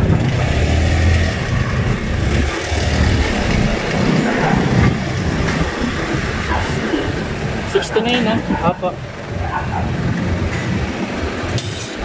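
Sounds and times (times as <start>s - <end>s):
vehicles rumbling past: 0.0s - 12.0s.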